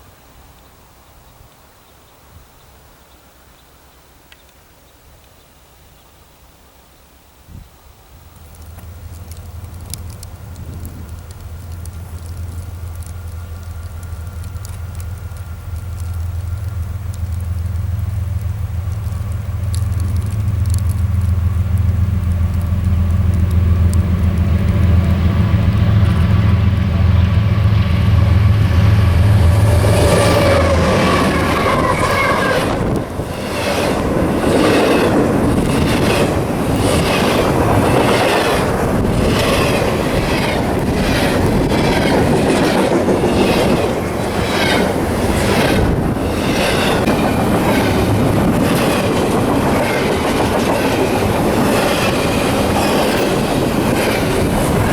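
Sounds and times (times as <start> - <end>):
diesel locomotive engine drone: 8.2 - 54.9
train wheels clickety-clack: 8.4 - 54.9.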